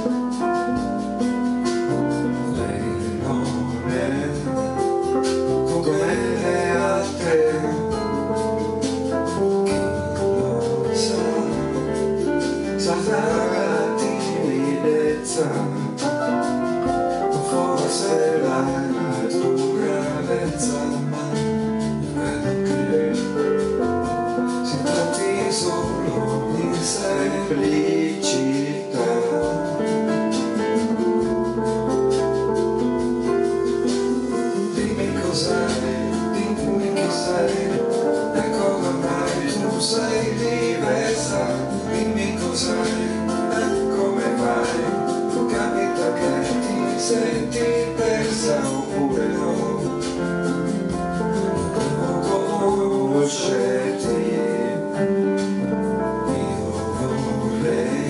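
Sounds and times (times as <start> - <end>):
piano-led pop-jazz music: 0.0 - 58.0.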